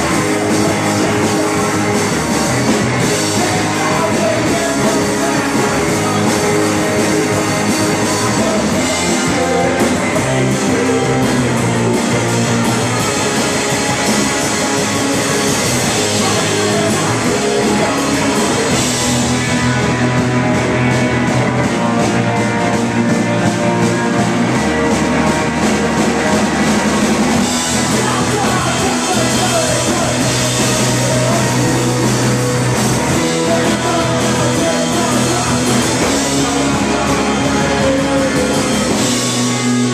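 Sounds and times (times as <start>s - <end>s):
person singing: 0.0s - 20.2s, 27.4s - 39.9s
rock band playing: 0.0s - 39.9s.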